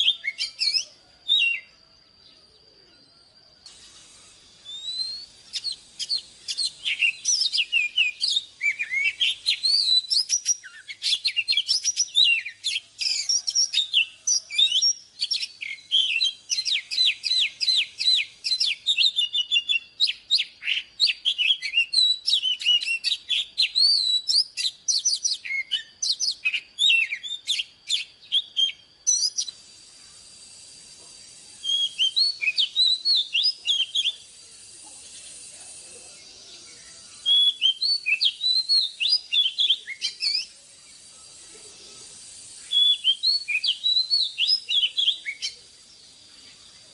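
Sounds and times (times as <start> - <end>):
bird singing whistles and trills: 0.0 - 46.9.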